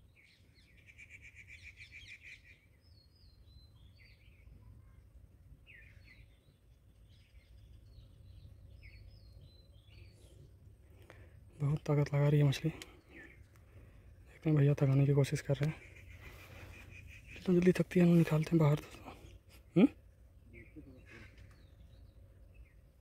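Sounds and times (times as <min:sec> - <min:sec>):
birds chirping and trilling: 0:00.0 - 0:19.5, 0:20.4 - 0:23.0
faint low outdoor background: 0:00.0 - 0:23.0.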